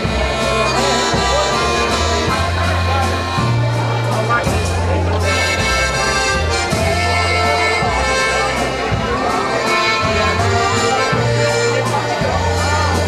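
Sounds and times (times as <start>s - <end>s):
bass line: 0.0s - 13.0s
button accordion melody: 0.0s - 13.0s.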